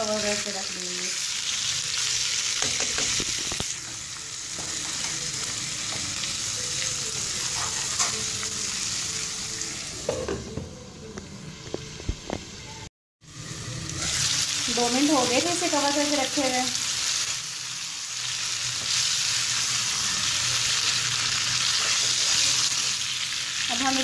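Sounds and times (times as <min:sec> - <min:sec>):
food sizzling in hot oil: 0:00.0 - 0:10.3, 0:11.7 - 0:24.0.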